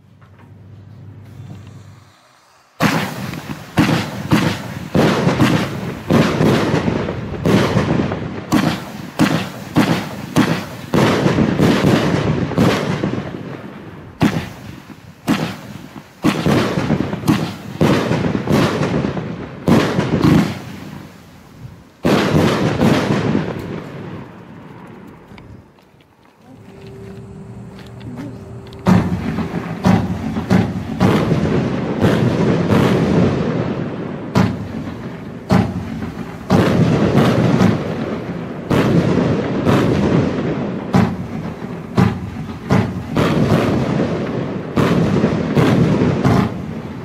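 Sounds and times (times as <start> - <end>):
fireworks bangs: 0.0 - 47.0.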